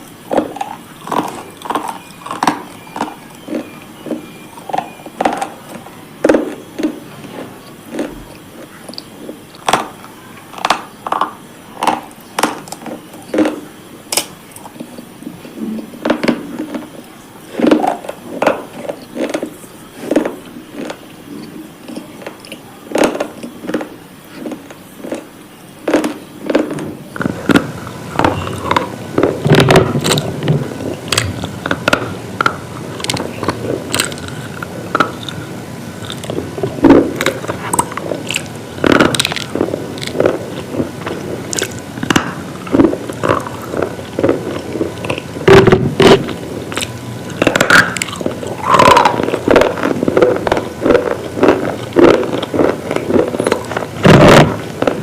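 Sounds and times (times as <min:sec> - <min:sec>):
crunching brittle slate: 0:00.3 - 0:15.0, 0:15.7 - 0:55.0.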